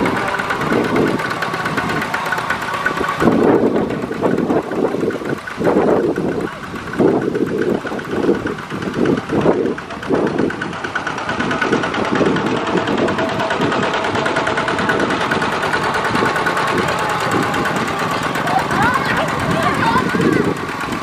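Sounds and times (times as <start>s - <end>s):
diesel tractor engines running: 0.0s - 21.0s.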